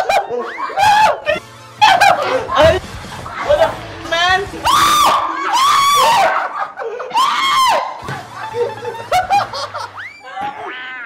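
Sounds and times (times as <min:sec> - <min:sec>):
people screaming: 0:00.0 - 0:03.7, 0:04.5 - 0:11.0
people laughing: 0:00.0 - 0:11.0.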